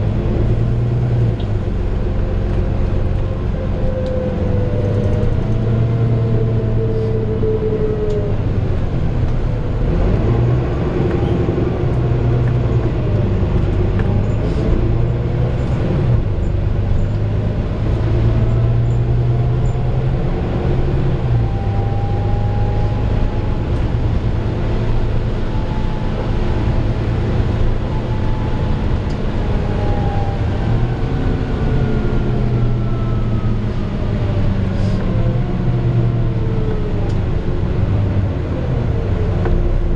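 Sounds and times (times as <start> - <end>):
bus diesel engine changing gear: 0.0 - 39.9.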